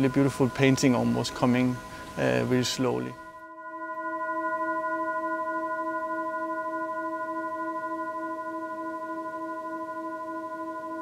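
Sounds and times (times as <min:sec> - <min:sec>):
singing bowl ringing: 0:00.0 - 0:11.0.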